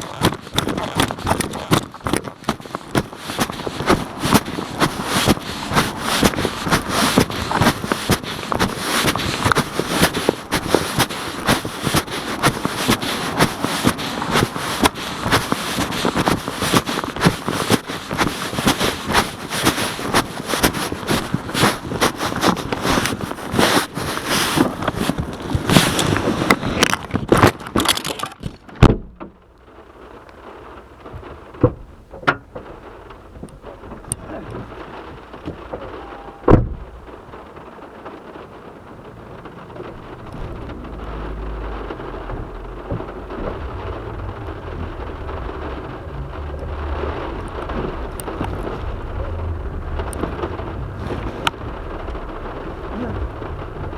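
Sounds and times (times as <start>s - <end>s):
heavy rain pelting: 0.0s - 28.4s, 29.5s - 53.9s
quiet rain patter: 0.0s - 53.9s.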